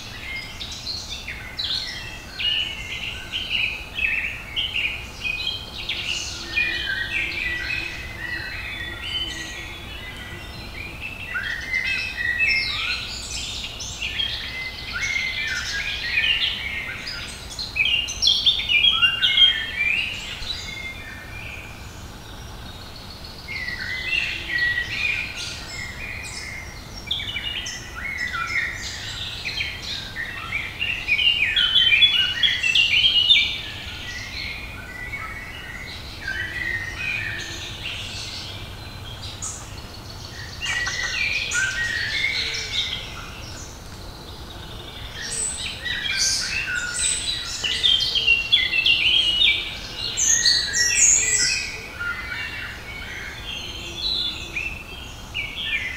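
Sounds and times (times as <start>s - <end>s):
songbirds singing: 0.0s - 55.9s.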